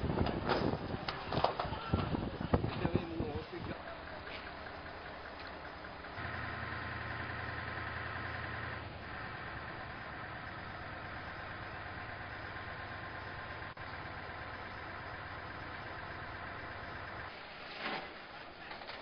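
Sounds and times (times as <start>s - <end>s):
engine idling: 2.0s - 17.4s.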